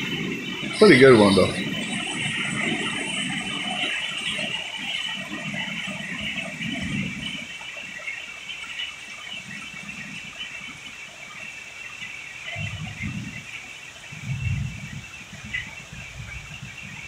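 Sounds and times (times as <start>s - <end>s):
heavy rain pouring: 0.0s - 17.0s
thunder rumbles: 0.0s - 17.0s.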